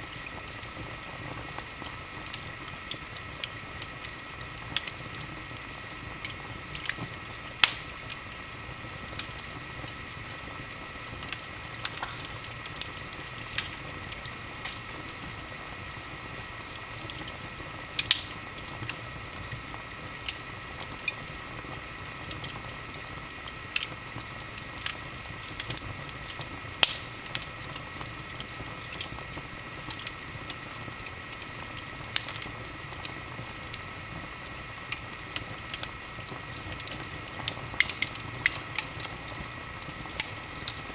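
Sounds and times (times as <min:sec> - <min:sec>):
fire popping and snapping: 0:00.0 - 0:40.9
wood fire crackling: 0:00.0 - 0:40.9.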